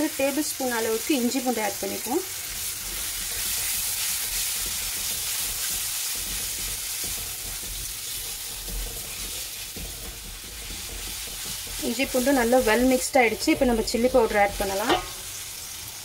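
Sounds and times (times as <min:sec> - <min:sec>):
masala sizzling in hot oil: 0:00.0 - 0:16.0
spatula scraping pan: 0:02.0 - 0:15.8.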